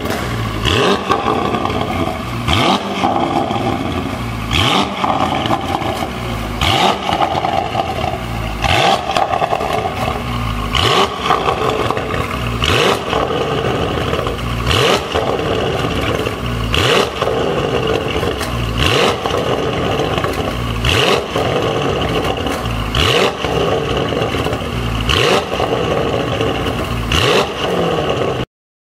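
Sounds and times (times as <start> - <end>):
car engine revving: 0.0 - 28.5.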